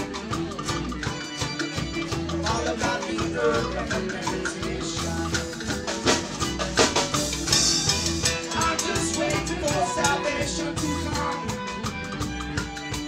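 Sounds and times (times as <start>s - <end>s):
drum kit and cymbals: 0.0s - 13.0s
low bass notes: 0.0s - 13.0s.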